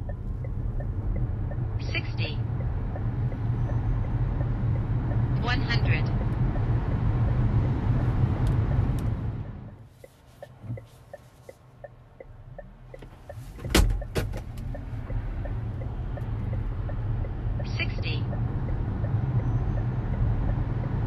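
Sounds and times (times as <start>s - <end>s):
road and tyre noise: 0.0s - 21.0s.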